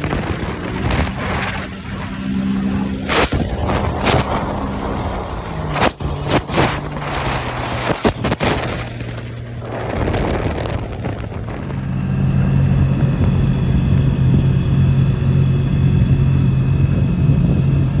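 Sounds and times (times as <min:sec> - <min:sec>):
high-pitched whine: 0:00.0 - 0:18.0
watercraft engine droning: 0:00.0 - 0:18.0.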